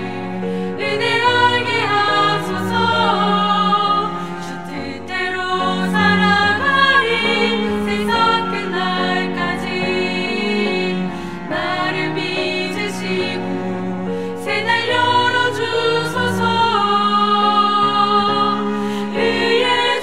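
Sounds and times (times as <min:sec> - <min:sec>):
women singing a hymn: 0:00.0 - 0:20.0.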